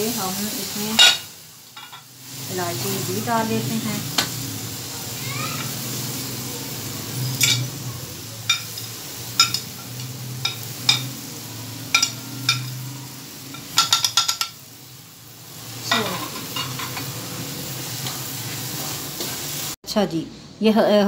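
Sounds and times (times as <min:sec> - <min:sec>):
low sizzle: 0:00.0 - 0:19.8.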